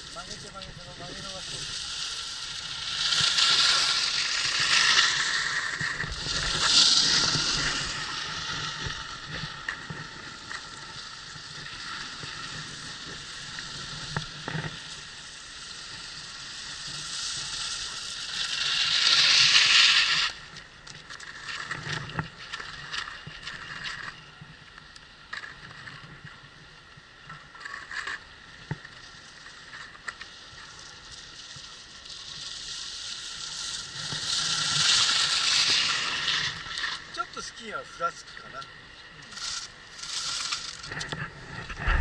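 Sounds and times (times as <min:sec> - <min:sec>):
skis skidding on snow: 0:00.0 - 0:24.6, 0:25.4 - 0:38.6, 0:39.2 - 0:42.0.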